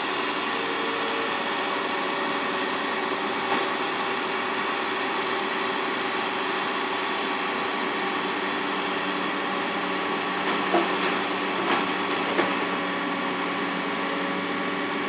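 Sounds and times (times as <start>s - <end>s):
tractor engine under heavy load: 0.0s - 15.0s.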